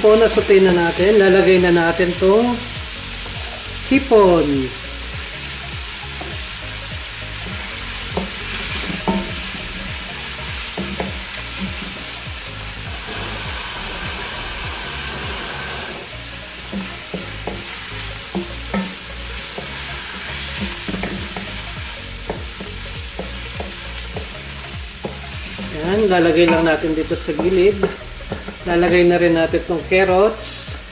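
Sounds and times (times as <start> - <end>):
food sizzling in a wok: 0.0 - 30.9.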